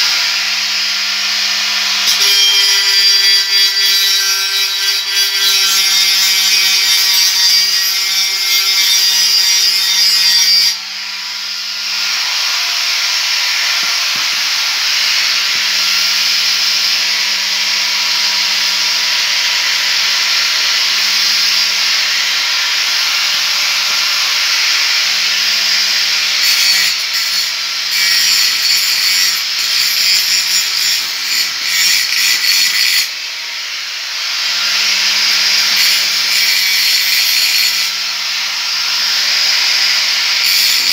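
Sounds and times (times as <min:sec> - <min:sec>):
angle grinder cutting steel: 0:00.0 - 0:40.9.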